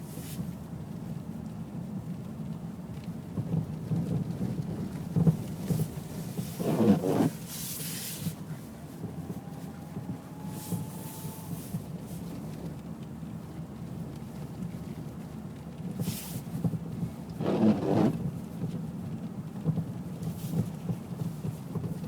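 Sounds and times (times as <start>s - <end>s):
road rumble from a car: 0.0s - 22.0s.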